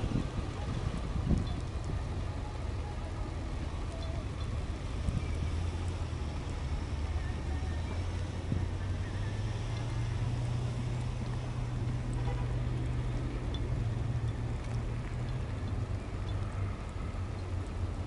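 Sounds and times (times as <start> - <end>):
street noise: 0.0 - 18.0.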